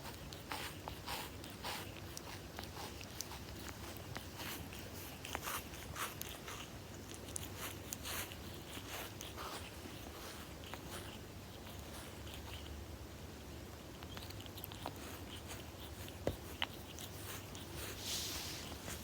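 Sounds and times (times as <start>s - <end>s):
kitten licking fur: 0.0s - 19.0s.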